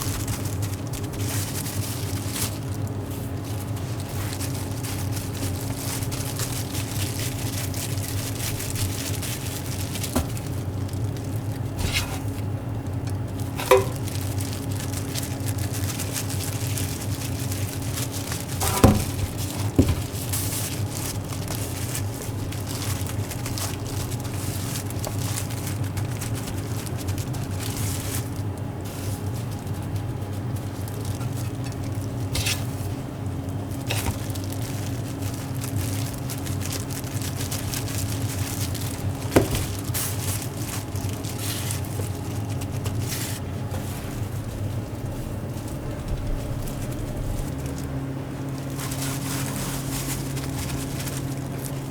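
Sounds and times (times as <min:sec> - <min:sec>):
kitchen equipment humming: 0:00.0 - 0:51.9.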